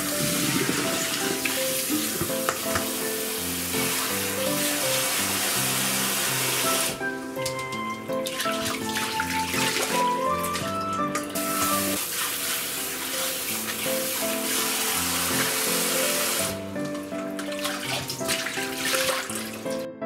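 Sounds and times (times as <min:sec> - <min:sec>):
faucet water spraying: 0:00.0 - 0:19.8
background music: 0:00.0 - 0:20.0.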